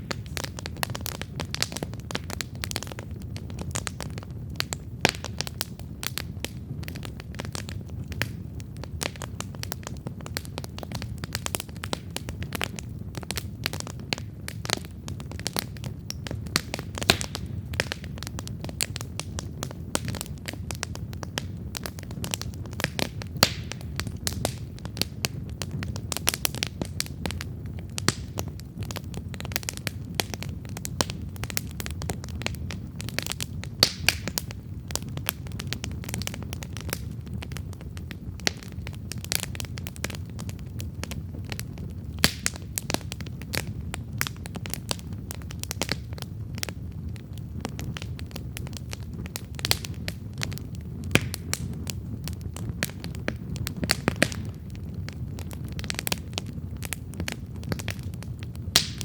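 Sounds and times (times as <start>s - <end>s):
campfire crackling and popping: 0.0s - 59.0s
low rumble of flames: 0.0s - 59.0s.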